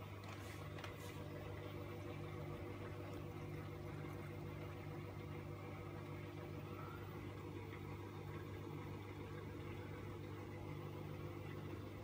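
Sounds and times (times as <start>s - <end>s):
washing machine faint hum: 0.0s - 12.0s.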